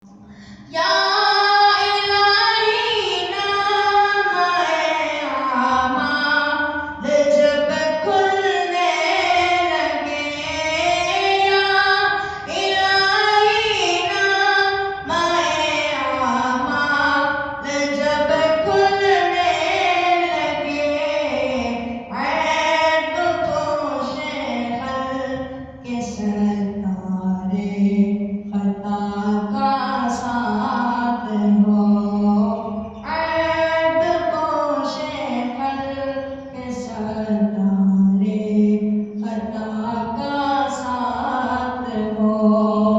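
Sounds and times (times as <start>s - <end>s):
high voice singing unaccompanied: 0.6s - 42.9s.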